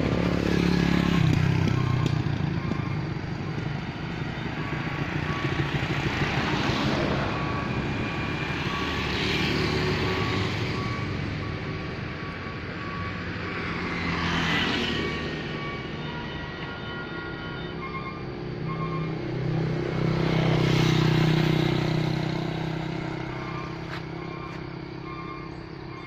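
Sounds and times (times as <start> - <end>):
motorcycles driving past: 0.0 - 16.0, 18.5 - 24.8
truck driving past: 0.0 - 26.0.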